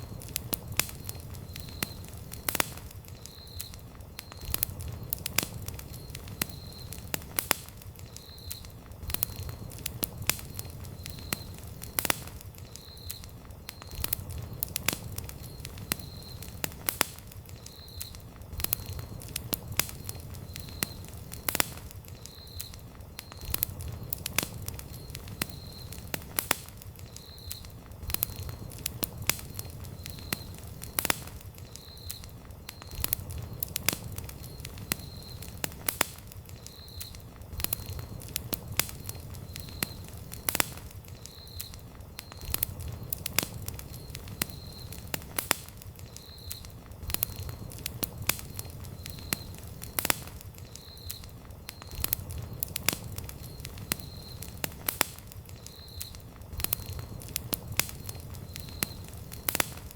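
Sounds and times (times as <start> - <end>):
campfire crackling: 0.0 - 59.9
sharp pops and snaps: 0.0 - 59.9.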